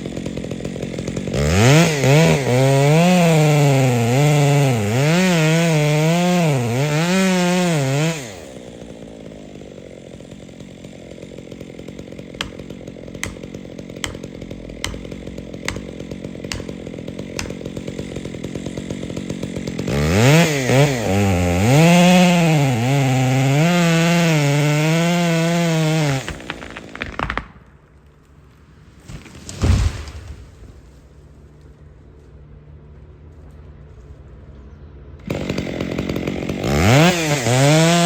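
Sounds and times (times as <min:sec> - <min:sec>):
chainsaw cutting and idling: 0:00.0 - 0:33.7, 0:35.2 - 0:38.0.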